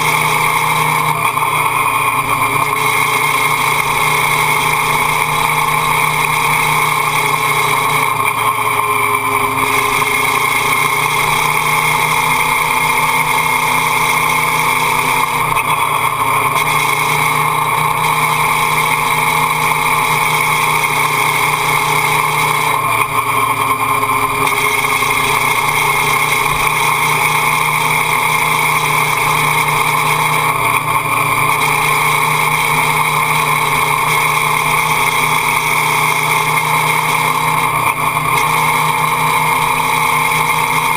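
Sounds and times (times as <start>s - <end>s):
motorcycle engine running: 0.0s - 40.9s
road noise: 0.0s - 40.9s.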